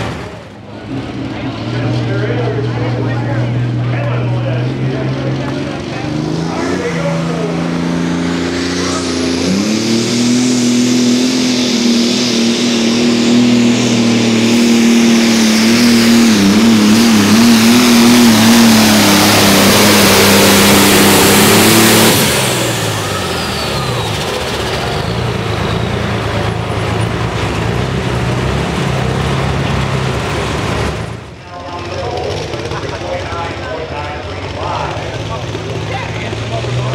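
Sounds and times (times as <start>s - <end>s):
diesel tractor engine revving: 0.0s - 36.9s
high turbo whine: 0.0s - 36.9s.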